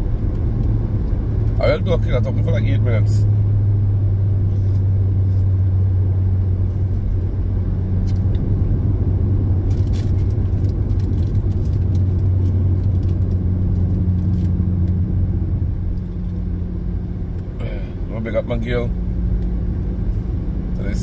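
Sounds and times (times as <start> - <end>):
car interior engine and road drone: 0.0 - 21.0.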